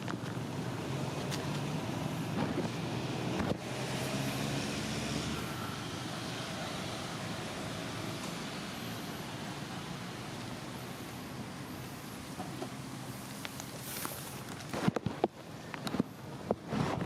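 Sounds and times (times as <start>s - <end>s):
passing motor vehicle rumbling: 0.0s - 14.4s.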